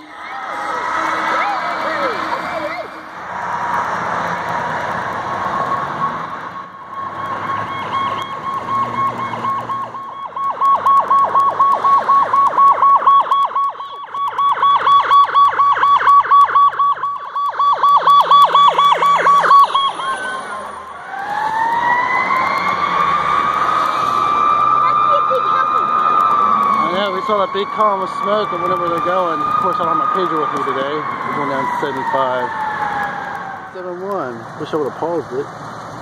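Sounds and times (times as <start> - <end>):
emergency siren wailing: 0.0 - 35.2.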